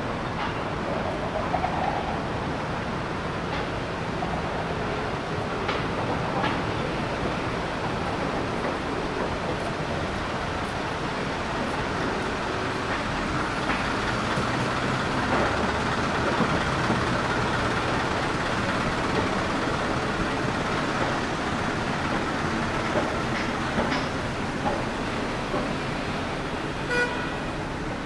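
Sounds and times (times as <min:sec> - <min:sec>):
street traffic: 0:00.0 - 0:28.0
large vehicle humming: 0:02.1 - 0:28.0.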